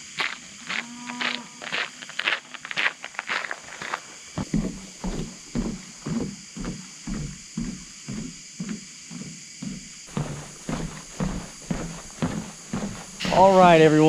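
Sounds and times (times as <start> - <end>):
footsteps walking: 0.1 - 14.0
steady high hiss: 1.4 - 14.0.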